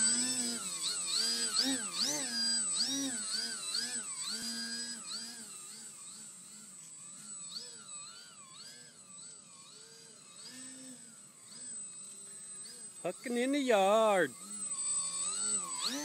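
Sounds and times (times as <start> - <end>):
model plane electric motor whine: 0.0 - 16.0.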